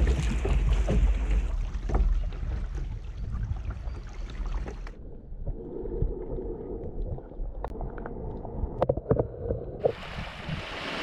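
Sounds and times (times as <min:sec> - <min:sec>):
dull underwater wash: 0:00.0 - 0:11.0
water and wind at kayak bow: 0:00.0 - 0:11.0.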